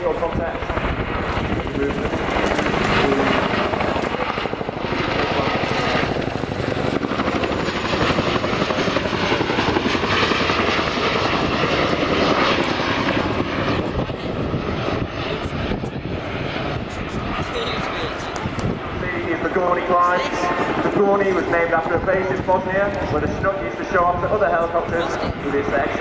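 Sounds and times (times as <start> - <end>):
helicopter engines: 0.0 - 26.0
helicopter rotors chopping: 0.0 - 26.0.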